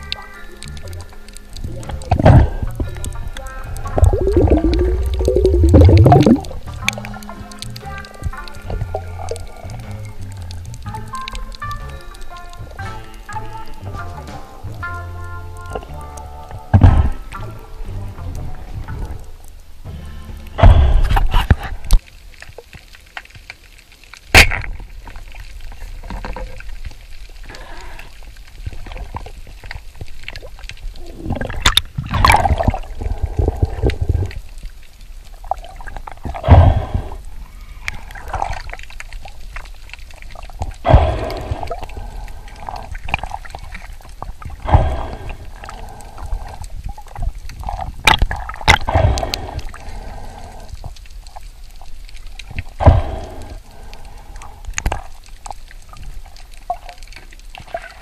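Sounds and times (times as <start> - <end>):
underwater water rush: 0.0 - 15.0, 15.6 - 58.0
water sloshing and gurgling: 0.0 - 58.0.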